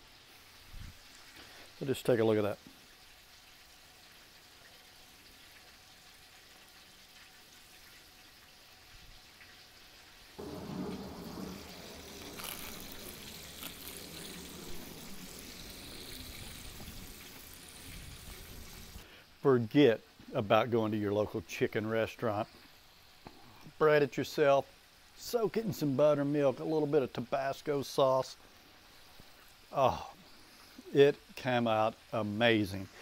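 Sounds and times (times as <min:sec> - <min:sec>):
oil bubbling and sizzling: 0:00.0 - 0:33.0.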